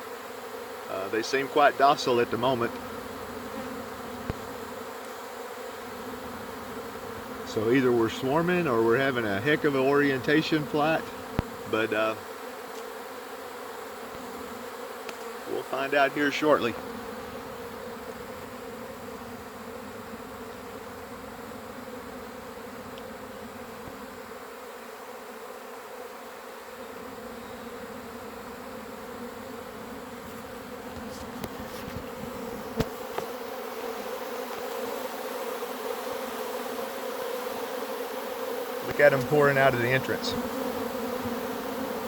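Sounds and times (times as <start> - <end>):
honeybees buzzing: 0.0 - 42.0.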